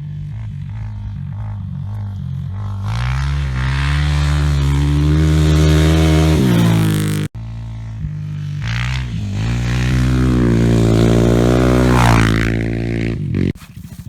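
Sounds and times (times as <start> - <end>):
quad engine revving: 0.0 - 14.0.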